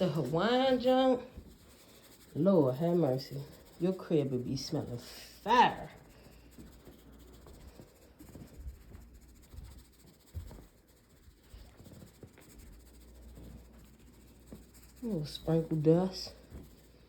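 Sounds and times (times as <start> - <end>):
powder shaken onto carpet: 0.0 - 17.0.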